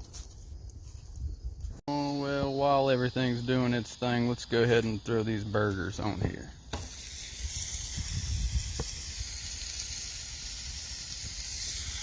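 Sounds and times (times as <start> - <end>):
burger patties sizzling on griddle: 2.0 - 12.0.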